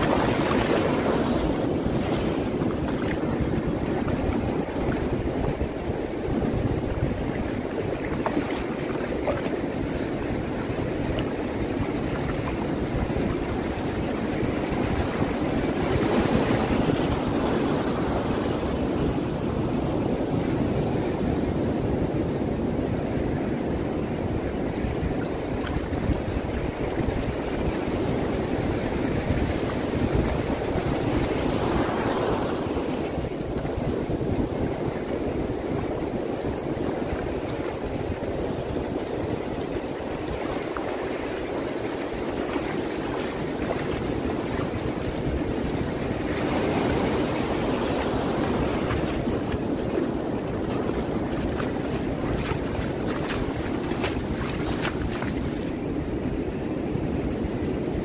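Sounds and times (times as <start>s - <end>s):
ocean surf on beach: 0.0s - 58.0s
wind rumble on microphone: 0.0s - 58.0s.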